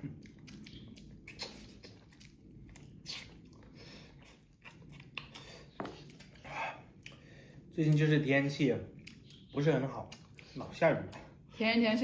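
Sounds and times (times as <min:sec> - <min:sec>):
person chewing food: 0:00.0 - 0:08.1, 0:08.8 - 0:11.5.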